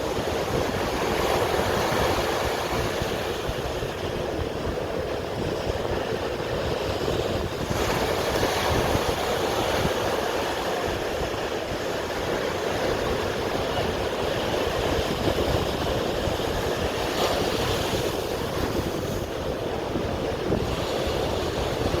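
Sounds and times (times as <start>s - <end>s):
sea waves washing: 0.0s - 22.0s
wind buffeting microphone: 0.0s - 22.0s.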